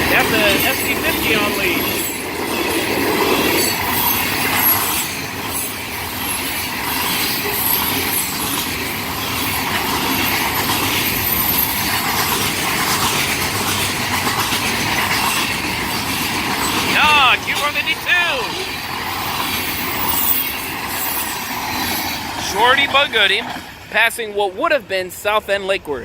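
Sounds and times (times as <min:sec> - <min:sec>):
freight train passing: 0:00.0 - 0:26.0.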